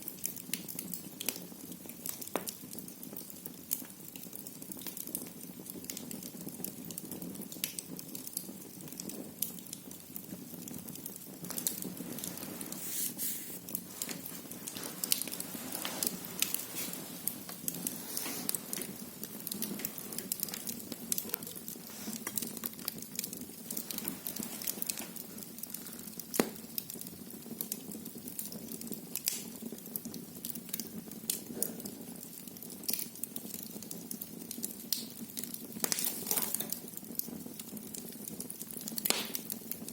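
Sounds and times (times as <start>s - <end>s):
fire crackling and popping: 0.0s - 39.9s
low rush of flames: 7.0s - 39.8s.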